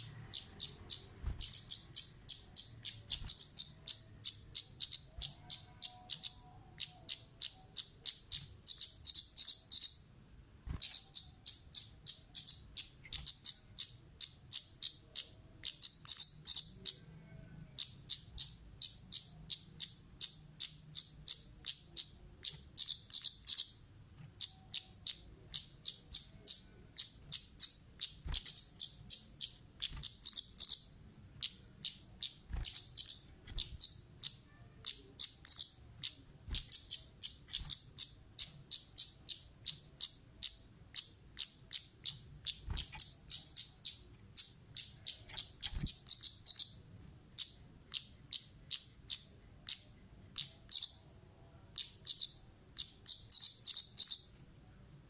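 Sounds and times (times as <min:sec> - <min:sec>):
bird calling in sharp high chirps: 0:00.0 - 0:10.1, 0:10.7 - 0:17.2, 0:17.8 - 0:51.1, 0:51.8 - 0:54.4.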